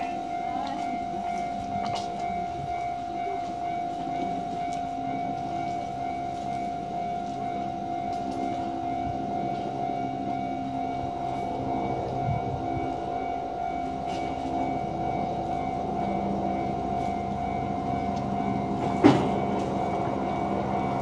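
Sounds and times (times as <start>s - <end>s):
level-crossing warning bell: 0.0s - 21.0s.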